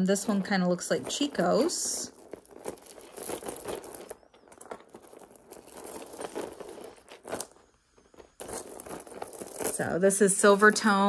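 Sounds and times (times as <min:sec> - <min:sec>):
metal chains clinking on tray: 0:00.1 - 0:07.5, 0:08.4 - 0:11.0.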